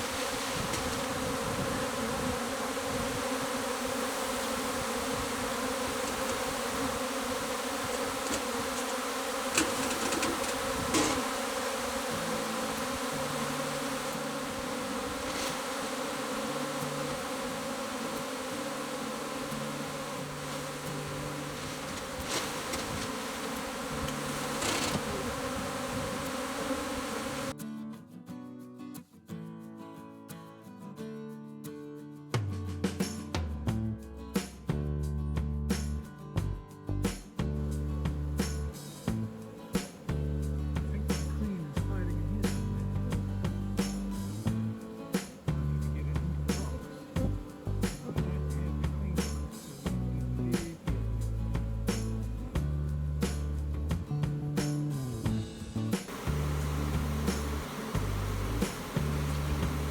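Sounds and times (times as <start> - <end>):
honeybee swarm buzzing: 0.0 - 27.6, 37.6 - 59.9.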